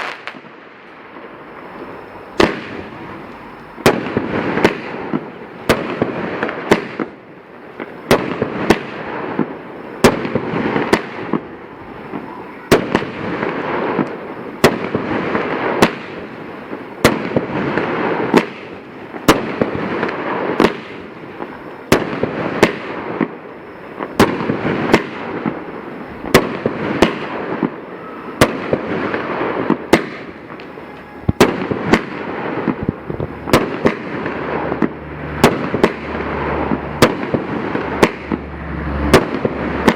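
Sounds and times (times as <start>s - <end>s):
fireworks crackle: 0.0s - 39.9s
fireworks sharp shots: 0.0s - 39.9s.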